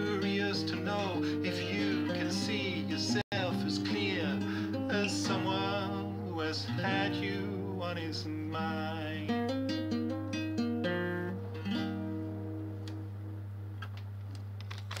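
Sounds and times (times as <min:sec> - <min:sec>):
acoustic guitar playing: 0:00.0 - 0:13.8.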